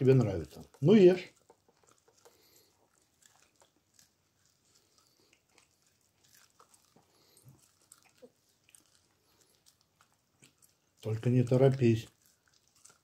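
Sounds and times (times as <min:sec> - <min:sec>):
dog teeth crunching corn kernels: 0:00.0 - 0:13.0.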